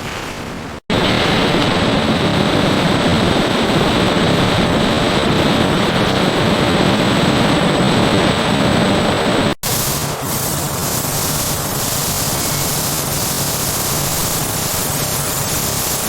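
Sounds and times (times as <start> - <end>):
faint high whine: 0.9 - 16.0
loud machine noise: 0.9 - 16.0.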